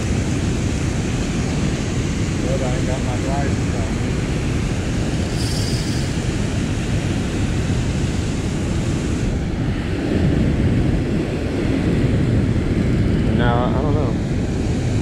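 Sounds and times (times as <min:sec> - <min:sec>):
spillway water rushing: 0:00.0 - 0:15.0
wind buffeting microphone: 0:00.0 - 0:15.0.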